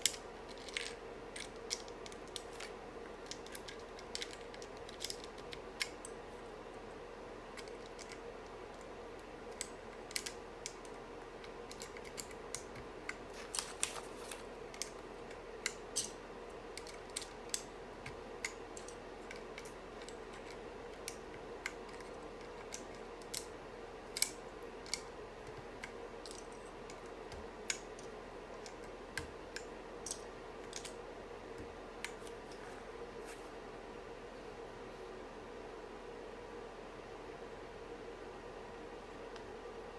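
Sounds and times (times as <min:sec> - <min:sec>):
steady background hum: 0:00.0 - 0:39.9.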